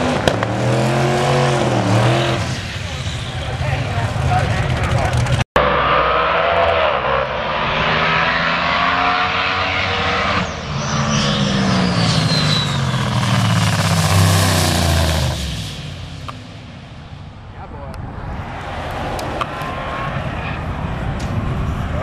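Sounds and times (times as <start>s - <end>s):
car passing close with whine: 0.0s - 22.0s
drag race car engines: 0.0s - 22.0s.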